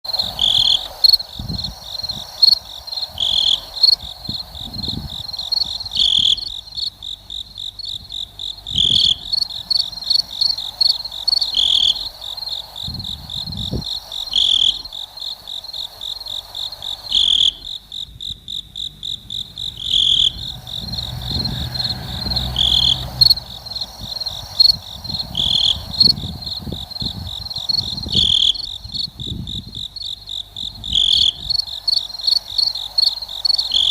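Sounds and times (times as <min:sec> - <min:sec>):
insect chirping: 0:00.1 - 0:33.9.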